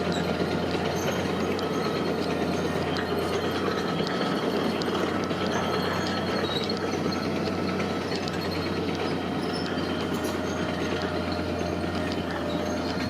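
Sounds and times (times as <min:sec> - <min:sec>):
low diesel drone: 0:00.0 - 0:13.0
metallic squeaks and clanks: 0:00.0 - 0:13.0.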